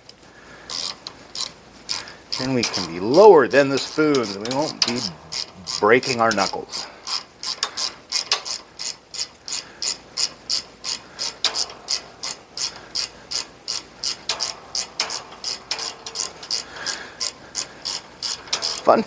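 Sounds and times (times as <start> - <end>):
socket ratchet clicking: 3.7 - 19.0.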